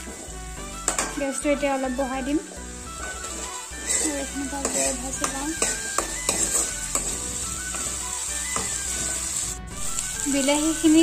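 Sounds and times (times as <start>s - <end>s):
metal spoon scraping a pan: 0.0s - 9.6s
vegetables sizzling in hot oil: 0.0s - 11.0s.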